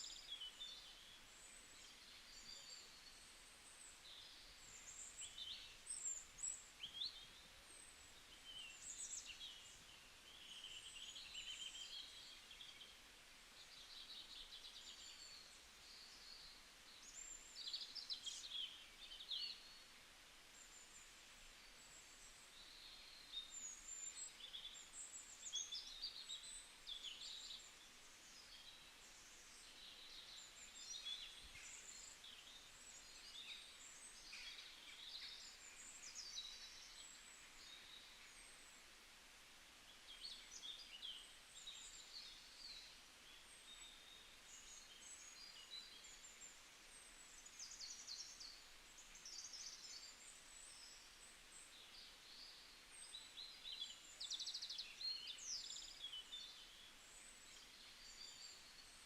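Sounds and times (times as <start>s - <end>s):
faint background hiss: 0.0s - 59.0s
small birds chirping: 0.0s - 59.0s.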